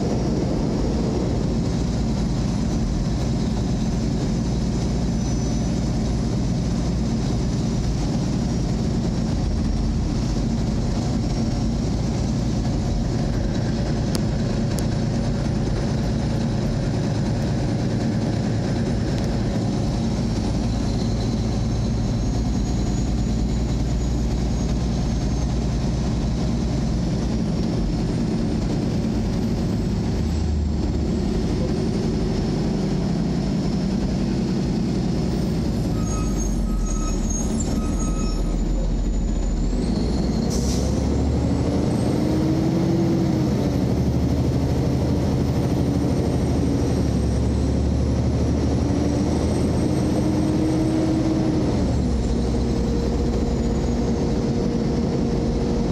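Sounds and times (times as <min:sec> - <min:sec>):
car engine and road rumble: 0:00.0 - 0:55.9.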